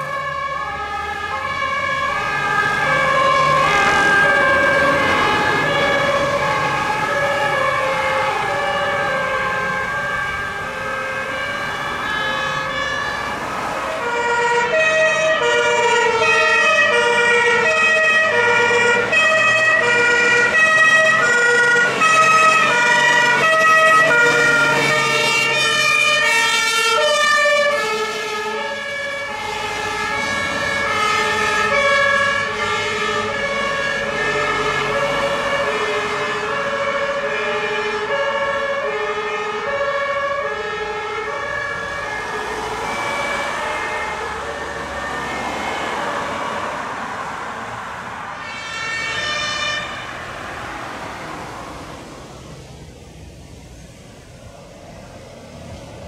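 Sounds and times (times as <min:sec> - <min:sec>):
two-tone sirens: 0:00.0 - 0:56.0.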